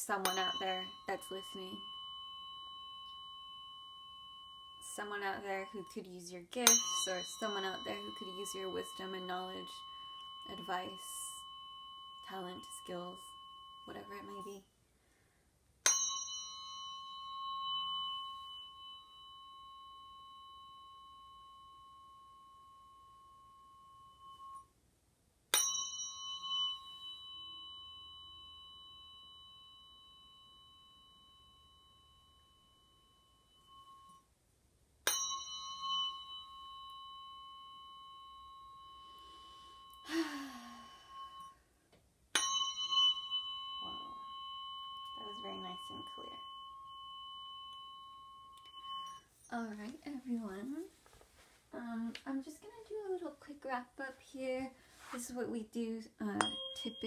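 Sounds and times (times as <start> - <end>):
tuning fork ringing: 0.0 - 24.9, 25.5 - 34.4, 35.0 - 53.7, 54.7 - 57.0.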